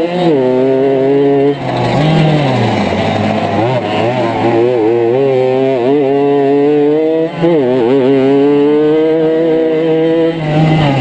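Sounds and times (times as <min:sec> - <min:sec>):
moped engine revving: 0:00.0 - 0:11.0.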